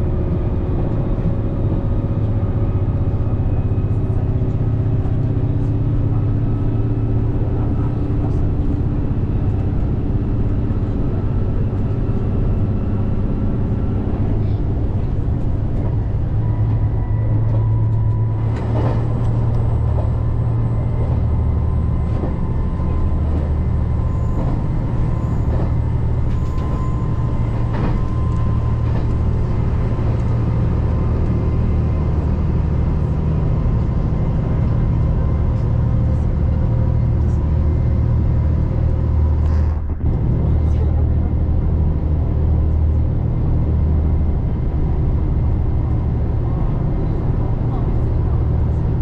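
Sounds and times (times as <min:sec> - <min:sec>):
train interior low drone: 0:00.0 - 0:49.0.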